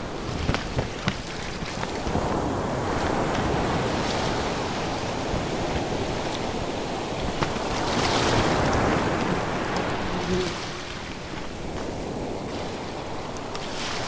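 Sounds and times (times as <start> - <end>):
ocean waves breaking on shore: 0.0 - 14.0.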